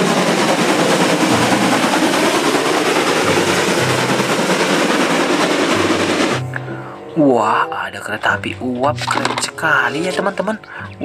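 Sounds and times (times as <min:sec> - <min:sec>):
steam locomotive passing: 0:00.0 - 0:11.0.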